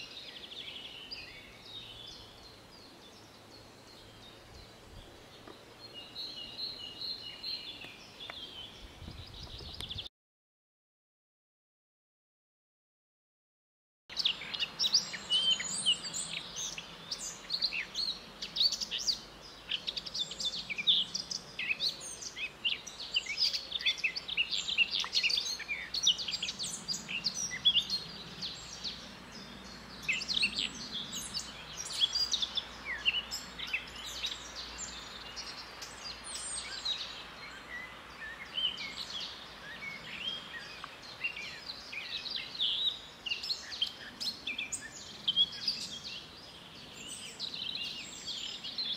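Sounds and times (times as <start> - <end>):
songbirds singing: 0.0 - 10.1, 14.1 - 48.9.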